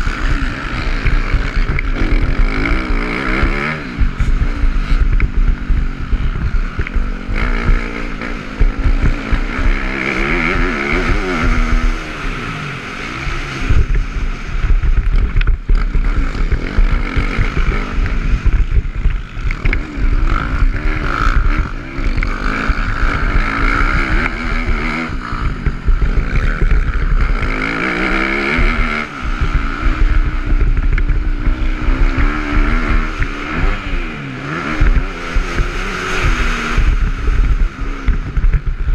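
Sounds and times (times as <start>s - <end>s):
dirt bike engine revving: 0.0s - 38.9s
wind buffeting the microphone: 3.4s - 38.9s.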